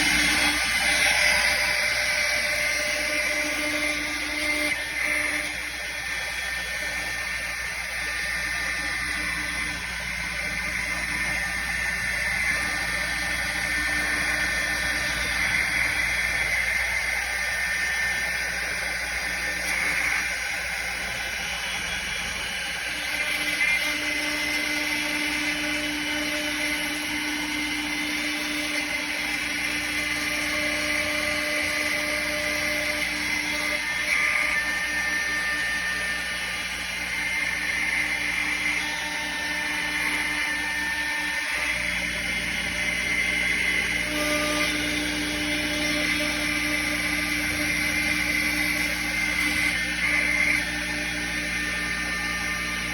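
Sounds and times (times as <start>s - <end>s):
router spindle whine cutting wood: 0.0s - 52.9s.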